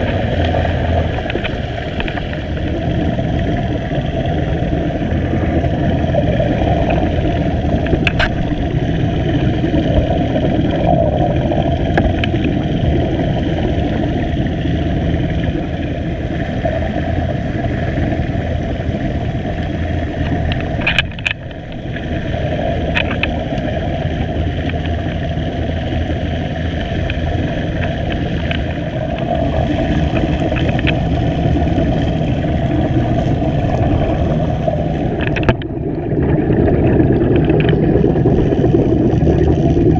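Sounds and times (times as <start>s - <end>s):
air bubbles: 0.0s - 39.9s
muffled underwater rumble: 0.0s - 39.9s.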